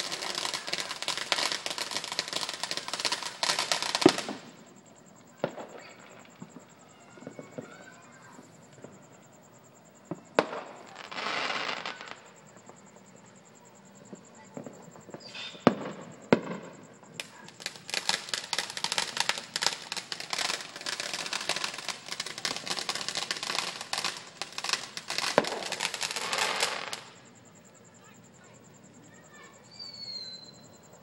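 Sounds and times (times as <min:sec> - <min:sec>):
firework bangs: 0:00.0 - 0:09.2, 0:10.0 - 0:12.9, 0:14.1 - 0:27.3
fireworks crackling and popping: 0:00.0 - 0:28.5.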